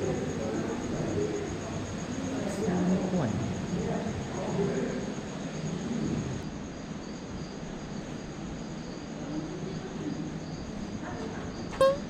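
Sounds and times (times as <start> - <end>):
crickets chirping: 0.0 - 12.0
low background noise: 0.0 - 12.0.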